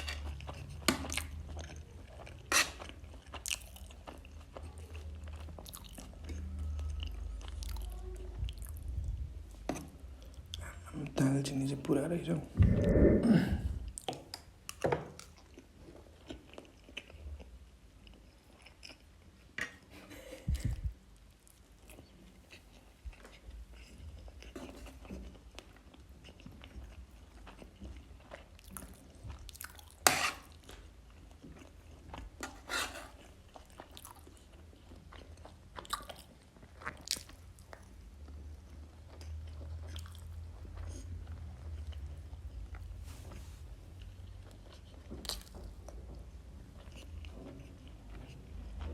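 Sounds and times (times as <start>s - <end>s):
person chewing food: 0.0s - 10.9s, 12.5s - 48.9s.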